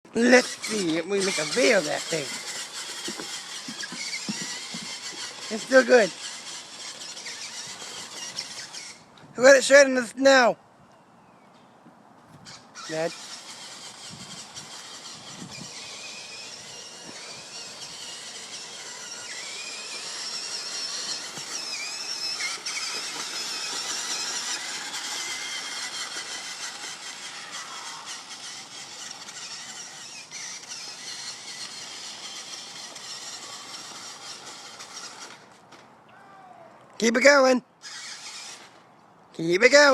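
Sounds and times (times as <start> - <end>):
toy electric motor whining: 0.1 - 10.2, 12.4 - 35.8, 37.0 - 39.9.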